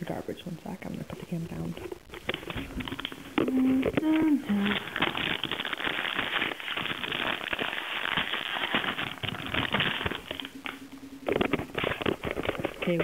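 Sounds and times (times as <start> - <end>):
faint low hum: 0.0 - 13.0
plastic chip bag crinkling: 2.1 - 13.0.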